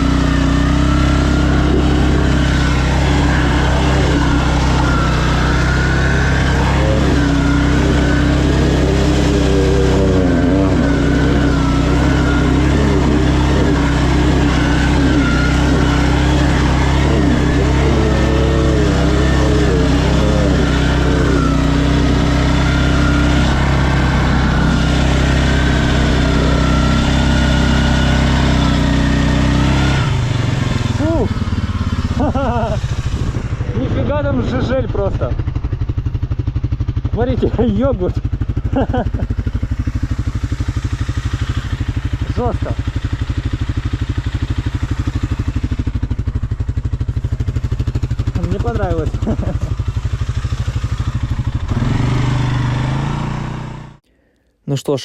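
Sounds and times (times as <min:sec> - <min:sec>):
atv engine droning and whining: 0:00.0 - 0:54.4.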